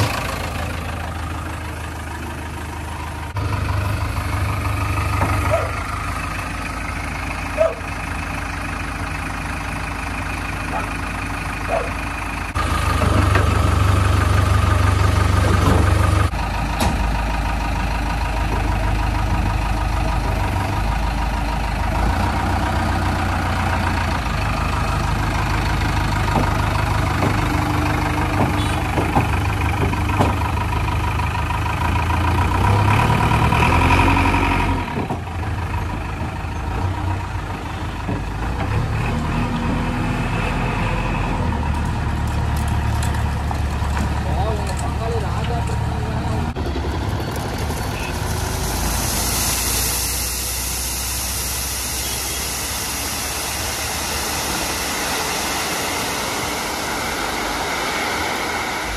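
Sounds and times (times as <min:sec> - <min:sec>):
diesel engine running and revving: 0:00.0 - 0:58.9.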